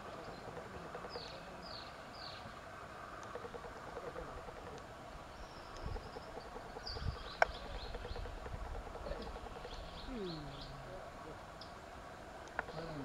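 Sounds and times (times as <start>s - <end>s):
small birds chirping: 0.0s - 11.8s, 12.4s - 13.0s.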